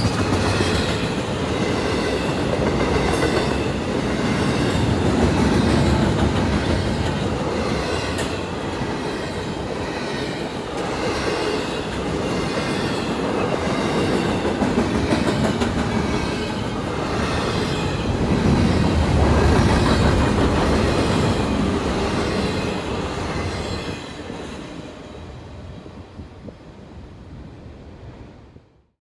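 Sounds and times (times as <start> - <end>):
freight train rolling past: 0.0 - 28.7.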